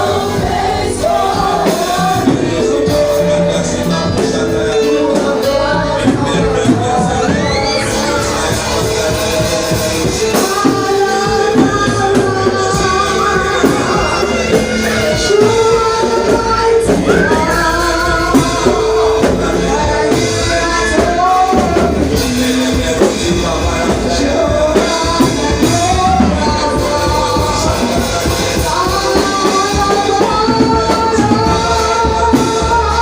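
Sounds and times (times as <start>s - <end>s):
instrumental accompaniment: 0.0s - 33.0s
voices singing gospel praise song: 0.0s - 33.0s.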